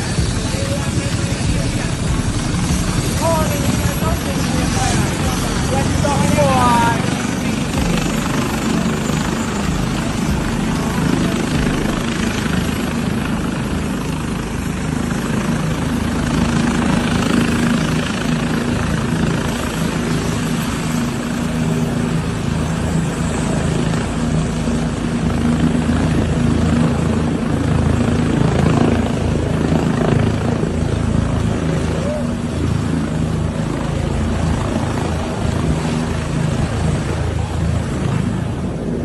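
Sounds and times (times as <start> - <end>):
helicopter engine and rotor running: 0.0 - 39.0.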